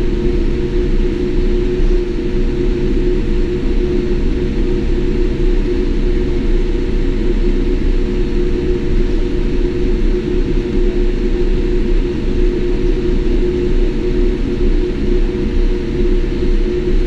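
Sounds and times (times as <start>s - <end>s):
low engine rumble in aircraft cabin: 0.0s - 17.0s
steady hum tone: 0.0s - 17.0s.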